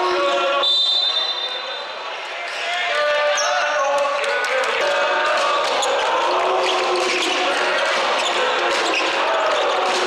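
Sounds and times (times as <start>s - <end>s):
voices shouting in a hall: 0.0s - 10.0s.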